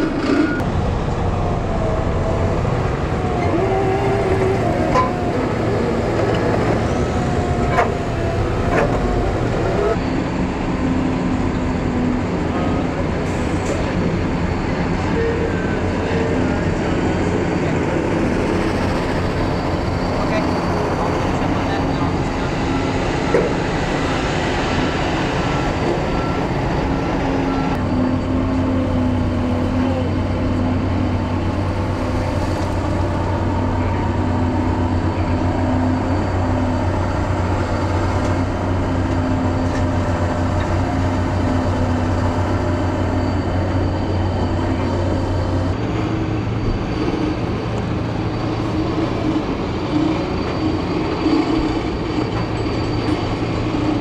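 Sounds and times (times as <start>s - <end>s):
excavator engine and hydraulics: 0.0s - 54.0s
heavy machinery running: 0.0s - 54.0s.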